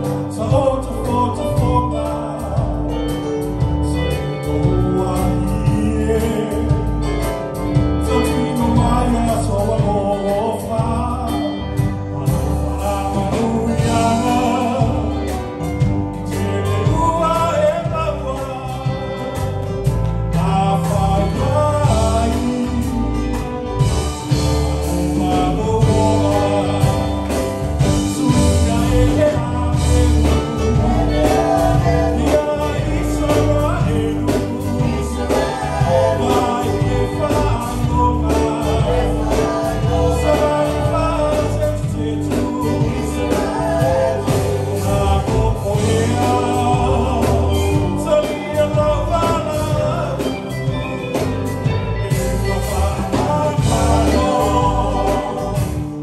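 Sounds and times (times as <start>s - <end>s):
man singing into a microphone: 0.0s - 7.2s, 8.0s - 19.6s, 20.2s - 23.6s, 24.8s - 56.0s
live band playing gospel: 0.0s - 56.0s.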